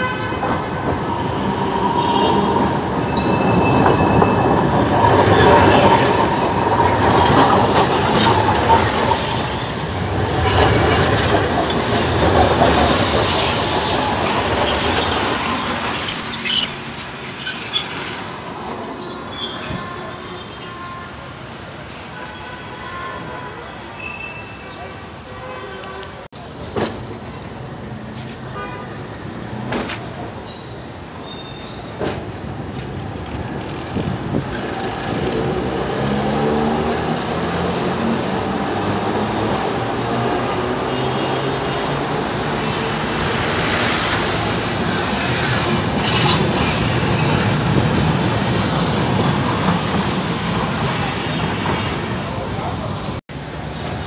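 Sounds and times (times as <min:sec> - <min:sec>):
tram wheels rumbling on rails: 0:00.0 - 0:20.6, 0:26.4 - 0:54.0.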